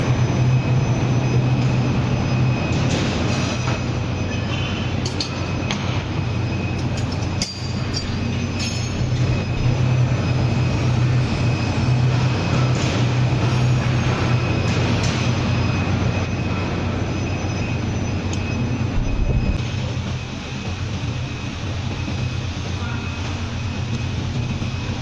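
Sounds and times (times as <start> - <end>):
high machine whine: 0.0 - 25.0
machine low hum: 0.0 - 25.0.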